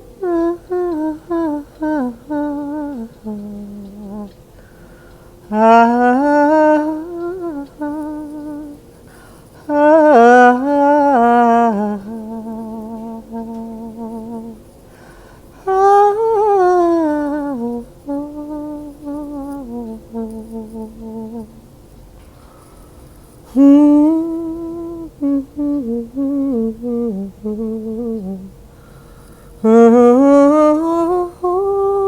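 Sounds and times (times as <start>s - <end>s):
woman humming a melody: 0.0s - 4.4s, 5.5s - 8.9s, 9.6s - 14.6s, 15.6s - 21.6s, 23.5s - 28.6s, 29.6s - 32.0s.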